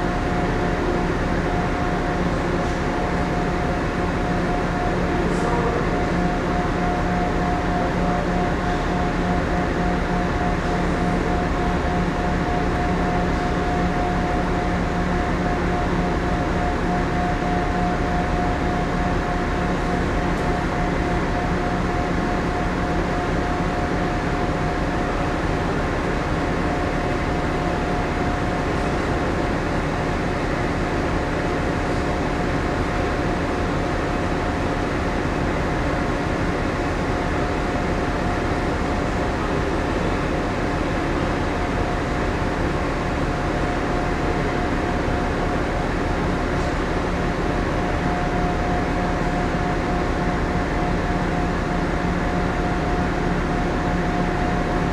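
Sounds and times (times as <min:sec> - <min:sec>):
ship machinery and ventilation hum: 0:00.0 - 0:54.9.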